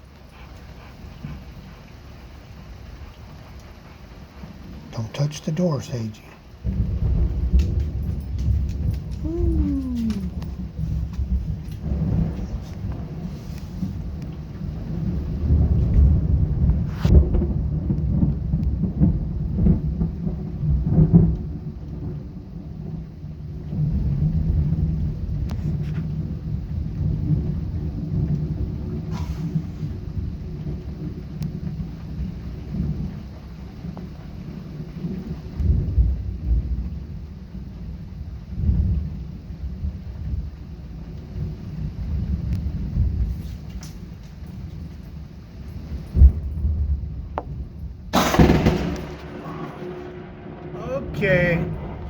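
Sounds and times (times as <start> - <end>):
rain falling: 0.0 - 52.0
thunder rolling and cracking: 0.0 - 52.0.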